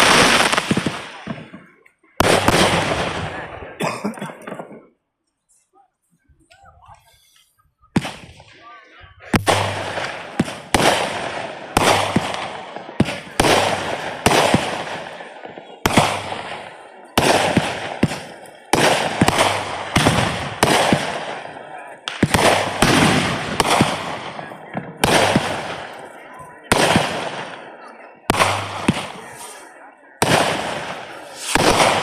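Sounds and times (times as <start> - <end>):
fireworks bangs: 0.0 - 4.9, 7.9 - 32.0.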